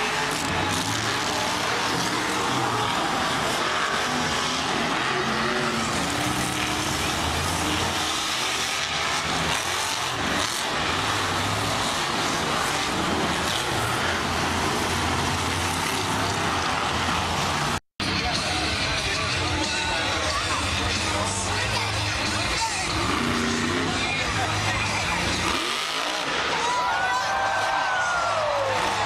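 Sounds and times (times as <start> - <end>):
monster truck engines revving: 0.0 - 29.0.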